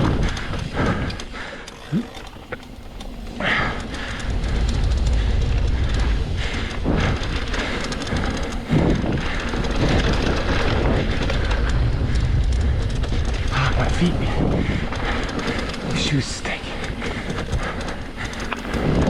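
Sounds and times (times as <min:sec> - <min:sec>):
bike clattering over rough ground: 0:00.0 - 0:19.0
wind rumbling on microphone: 0:00.0 - 0:19.0.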